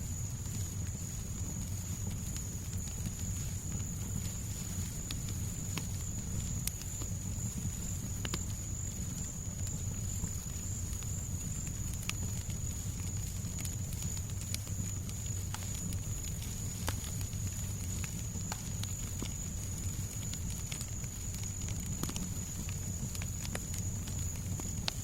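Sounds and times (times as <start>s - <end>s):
fireplace crackling: 0.0s - 24.9s.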